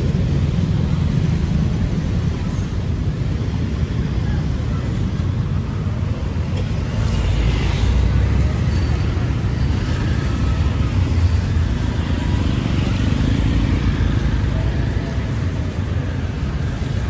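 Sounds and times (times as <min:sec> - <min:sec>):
faint voices: 0:00.0 - 0:17.0
passing motor vehicles rumble: 0:00.0 - 0:17.0.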